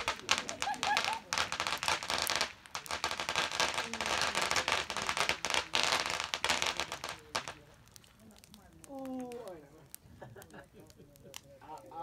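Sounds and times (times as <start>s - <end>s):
firework hiss: 0.0s - 10.7s
firework fountain crackling pops: 0.0s - 12.0s.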